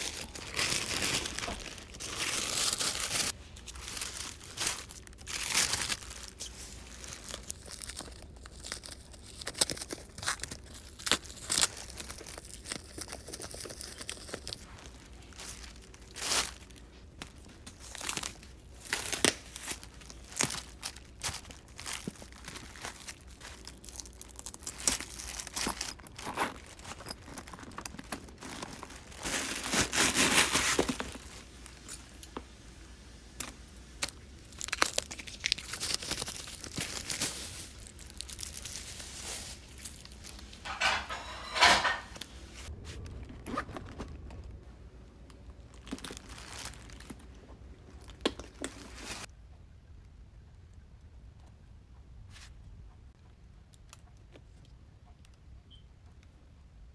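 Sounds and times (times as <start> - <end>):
packaging crinkling and tearing: 0.0 - 32.1, 33.5 - 44.6, 45.6 - 49.3.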